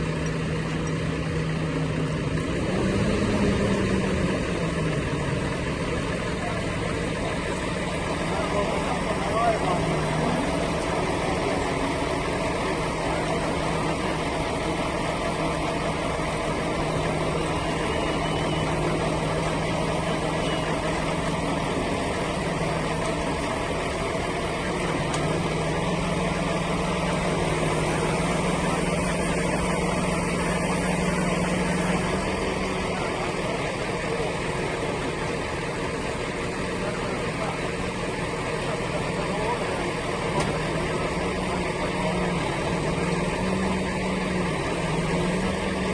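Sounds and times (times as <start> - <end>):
engine humming steadily: 0.0 - 45.9.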